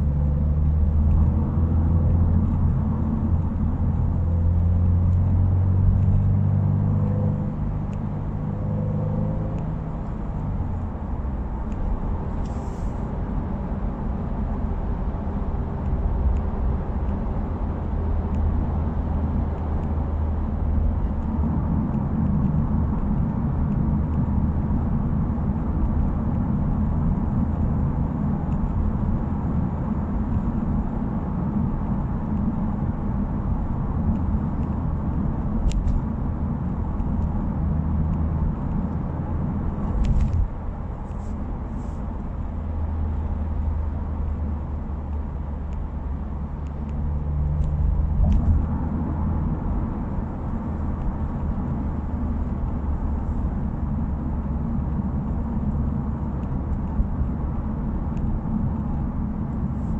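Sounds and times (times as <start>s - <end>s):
car engine and exhaust drone: 0.0s - 59.9s
road noise: 0.0s - 59.9s.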